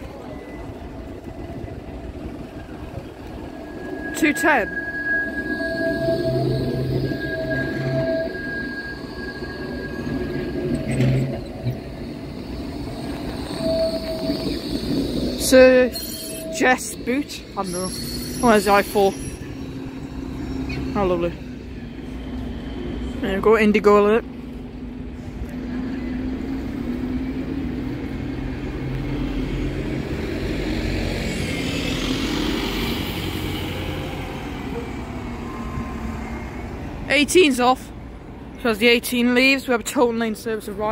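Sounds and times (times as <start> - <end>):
bus engine droning: 0.0 - 40.9
tram electric whine: 0.0 - 40.9
tram wheels rumbling: 0.0 - 40.9.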